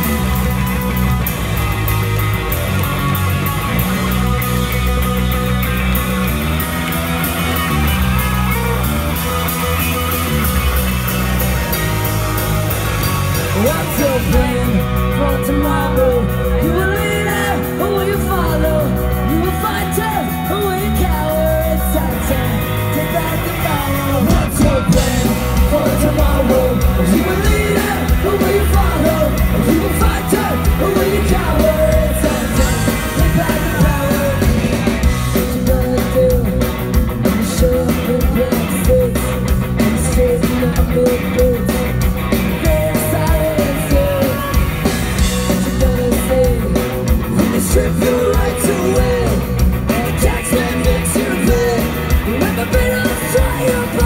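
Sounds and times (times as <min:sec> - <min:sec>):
drums: 0:00.0 - 0:54.0
electric guitar: 0:00.0 - 0:54.0.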